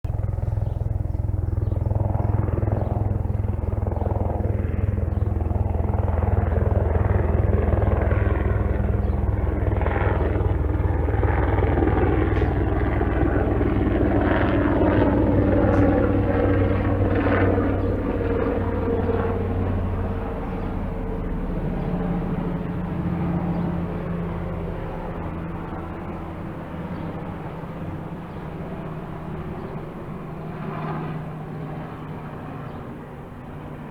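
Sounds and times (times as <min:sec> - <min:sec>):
helicopter rotor beating: 0:00.0 - 0:33.9
helicopter turbine: 0:00.1 - 0:33.9.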